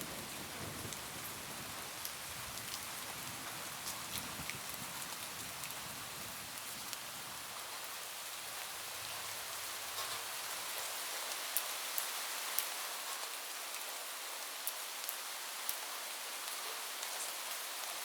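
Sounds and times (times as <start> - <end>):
rain on a roof: 0.0 - 18.0.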